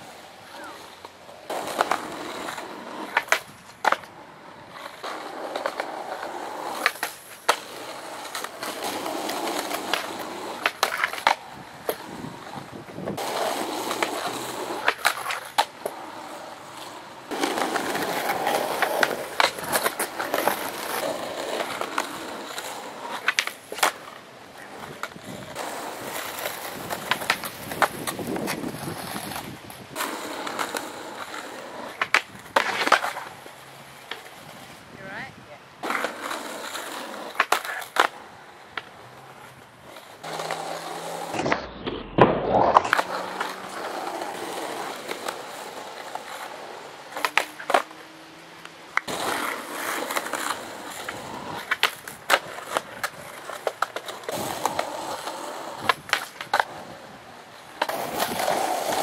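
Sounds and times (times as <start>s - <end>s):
skateboard wheels rumbling on asphalt: 0.0s - 59.0s
skateboards clacking: 0.0s - 59.0s.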